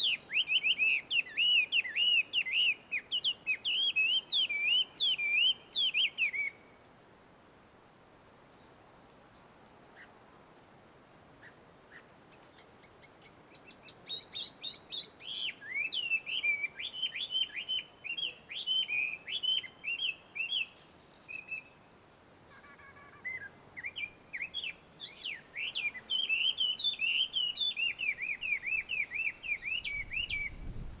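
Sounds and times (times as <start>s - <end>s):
bird singing whistled notes: 0.0s - 6.8s, 12.6s - 31.0s.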